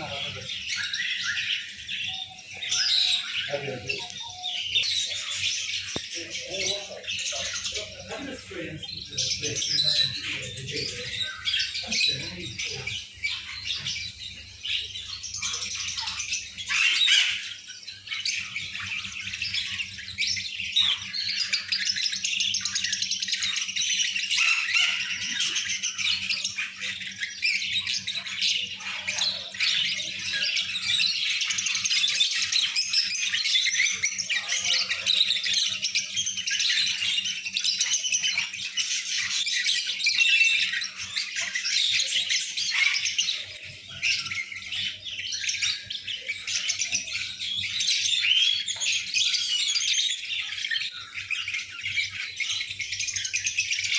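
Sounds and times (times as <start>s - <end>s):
lovebirds chattering and squawking: 0.0s - 53.9s.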